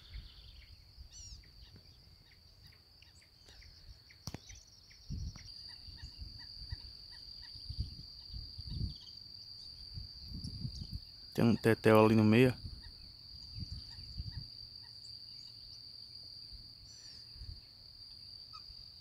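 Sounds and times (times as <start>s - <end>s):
faint bird chirps and whistles: 0.0s - 11.8s, 12.6s - 16.2s
high insect trill: 0.0s - 19.0s.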